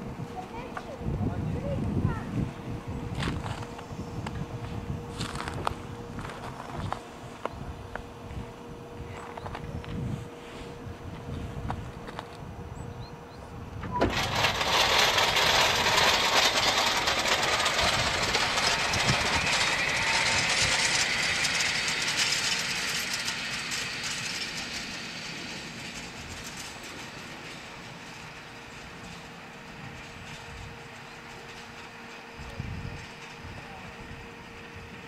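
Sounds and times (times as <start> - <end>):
train coaches rolling on rails: 0.0 - 35.0.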